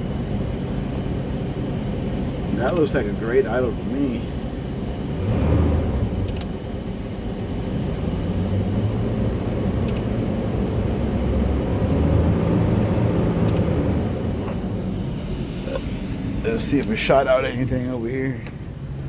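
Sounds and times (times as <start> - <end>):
motorhome engine idling: 0.0 - 11.7, 12.6 - 19.0.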